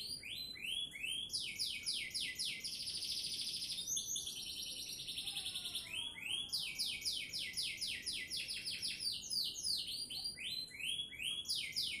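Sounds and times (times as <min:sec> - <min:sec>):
canary singing trills: 0:00.0 - 0:12.0.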